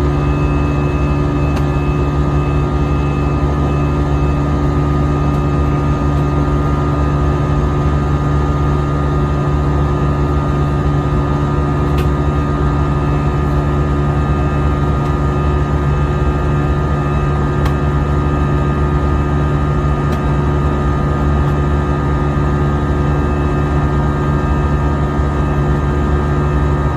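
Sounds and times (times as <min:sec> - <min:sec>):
airliner cabin engine drone: 0:00.0 - 0:26.9.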